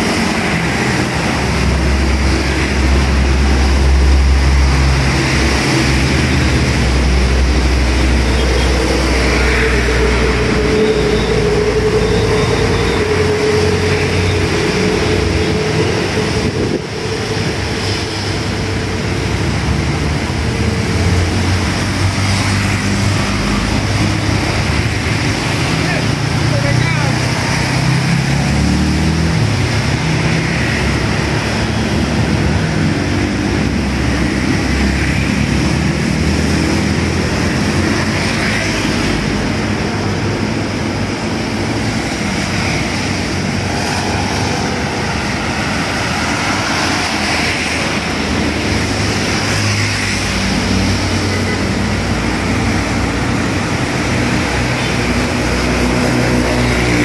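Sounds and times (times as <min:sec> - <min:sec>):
motorcycles and cars passing: 0:00.0 - 0:57.0
tyres hissing on wet road: 0:00.0 - 0:57.0.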